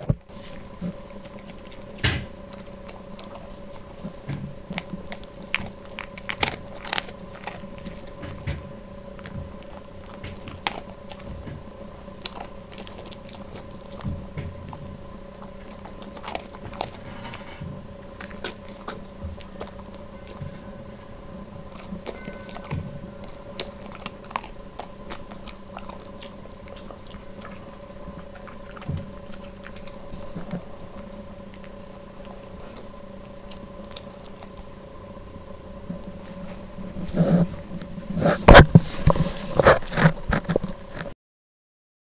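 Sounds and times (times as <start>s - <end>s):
dog crunching a biscuit: 0.0s - 34.8s, 35.9s - 41.1s.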